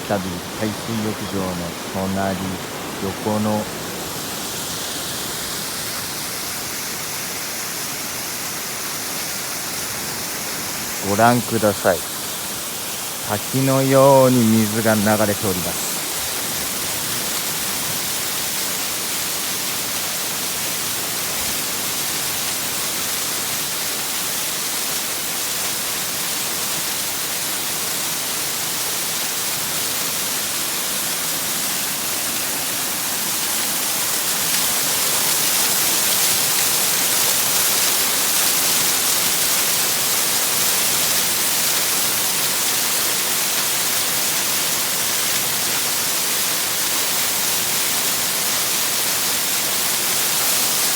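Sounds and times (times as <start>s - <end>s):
water pouring like a waterfall: 0.0s - 50.9s.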